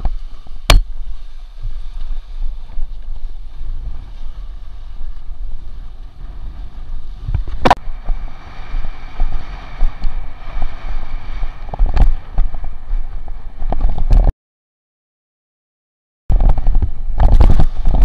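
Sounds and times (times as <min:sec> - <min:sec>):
board slapping waves: 0:00.0 - 0:14.3, 0:16.3 - 0:18.0
wind buffeting microphone: 0:00.0 - 0:14.3, 0:16.3 - 0:18.0.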